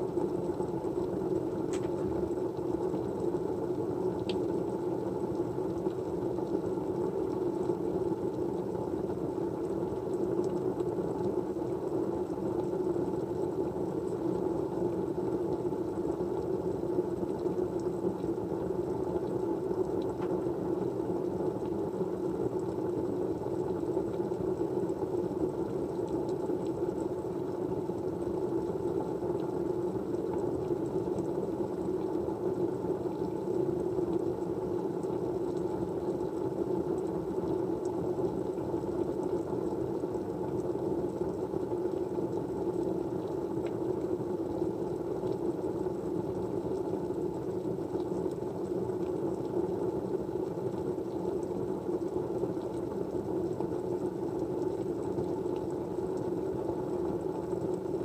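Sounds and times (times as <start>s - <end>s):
low-pitched white noise hiss: 0.0s - 58.0s.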